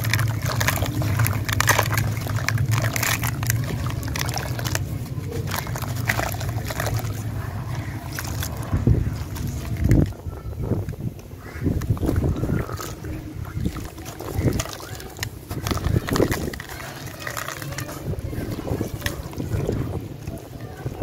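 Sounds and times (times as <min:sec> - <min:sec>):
hands sloshing in water: 0:00.0 - 0:10.1, 0:11.4 - 0:21.0.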